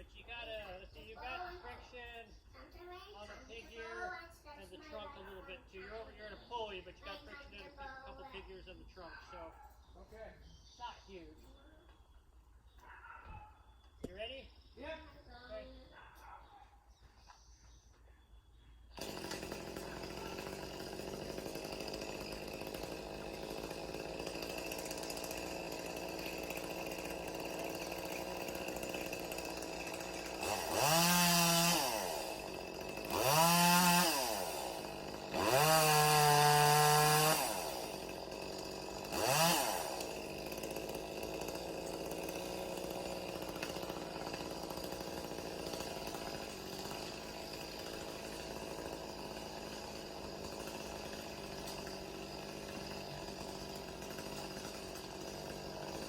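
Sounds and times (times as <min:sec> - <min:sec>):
chainsaw idling and revving: 0:00.0 - 0:02.2, 0:02.9 - 0:09.4, 0:19.0 - 0:56.0.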